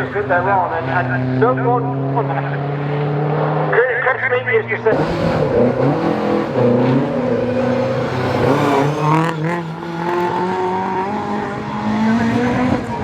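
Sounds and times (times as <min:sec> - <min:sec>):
rally car engine running: 0:00.0 - 0:13.0.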